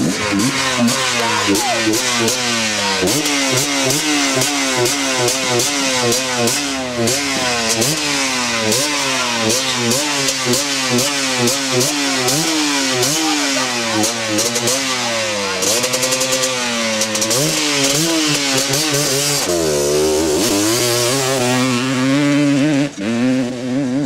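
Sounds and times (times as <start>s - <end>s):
quad engine revving: 0.0s - 24.0s.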